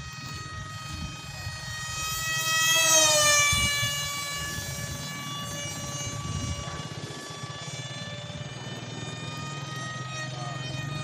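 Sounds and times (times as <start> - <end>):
model jet electric motor whining: 0.0 - 11.0.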